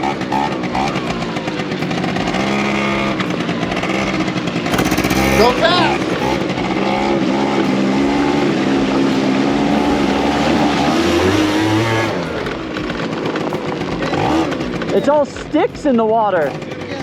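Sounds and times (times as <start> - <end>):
scooter engine running hard: 0.0 - 17.0.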